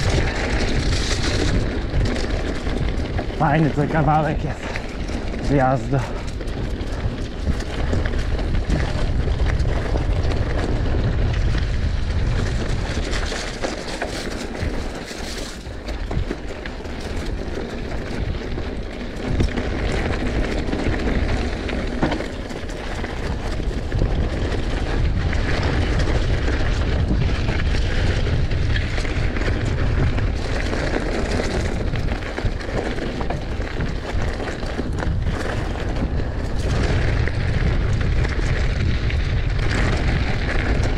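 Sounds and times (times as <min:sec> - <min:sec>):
bike rattling over bumps: 0:00.0 - 0:40.9
tyres rolling over dirt: 0:00.0 - 0:40.9
wind buffeting microphone: 0:00.0 - 0:40.9.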